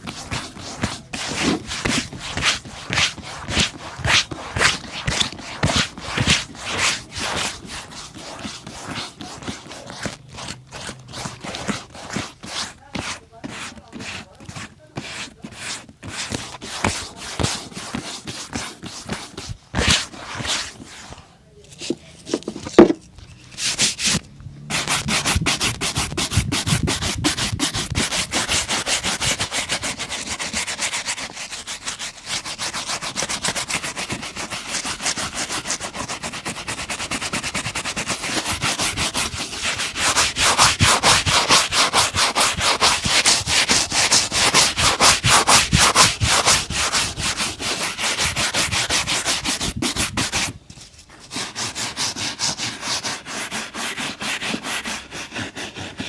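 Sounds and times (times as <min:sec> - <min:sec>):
rubbing strokes on shoe: 0:00.0 - 0:21.2, 0:23.6 - 0:50.6, 0:51.2 - 0:56.0.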